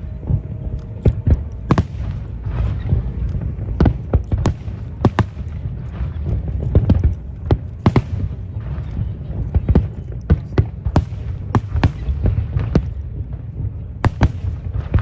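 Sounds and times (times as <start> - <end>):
deep rumble of fireworks launches: 0.0 - 15.0
fireworks sharp bangs: 1.1 - 8.6, 9.6 - 15.0.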